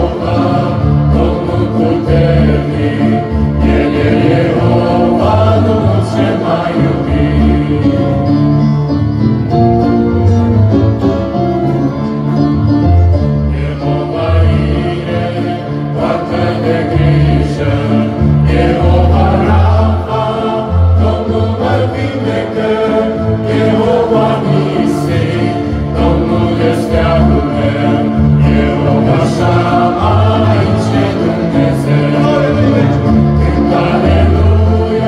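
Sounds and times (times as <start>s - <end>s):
acoustic guitar: 0.0s - 35.0s
choir singing in harmony: 0.0s - 35.0s.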